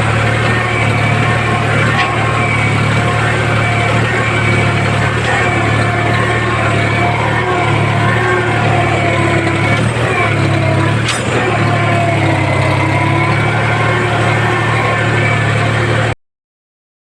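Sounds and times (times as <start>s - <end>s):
tractor diesel engine running: 0.0s - 16.2s.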